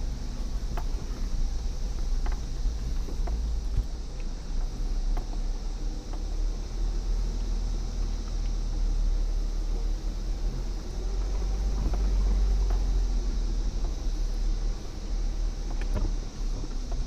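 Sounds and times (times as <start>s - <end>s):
off-road vehicle engine rumbling: 0.0s - 17.0s.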